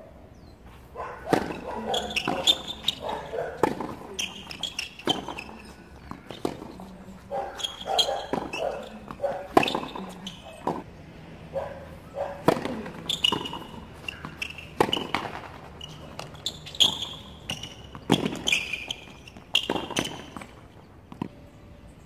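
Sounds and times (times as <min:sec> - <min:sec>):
racket striking tennis ball: 0:01.2 - 0:10.9, 0:12.3 - 0:21.3
tennis ball bouncing: 0:01.2 - 0:10.9, 0:12.2 - 0:21.5.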